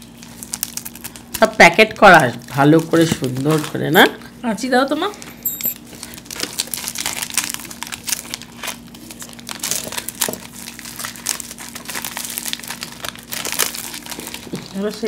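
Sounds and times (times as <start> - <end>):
foil wrapper crinkling: 0.0 - 4.3, 5.1 - 15.0.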